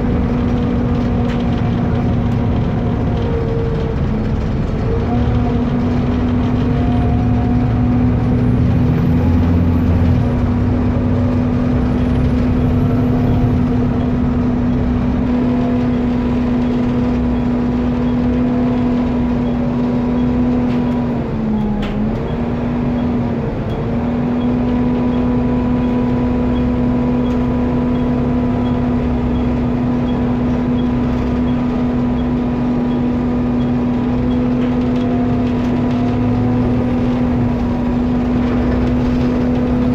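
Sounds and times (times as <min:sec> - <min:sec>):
bus engine roar: 0:00.0 - 0:39.9.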